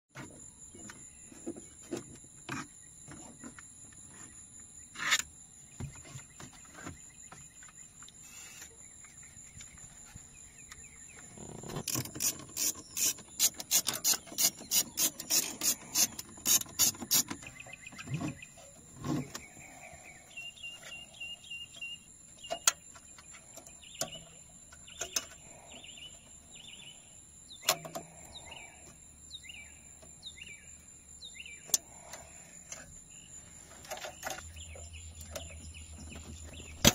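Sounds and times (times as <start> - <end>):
birds chirping: 5.6 - 36.9.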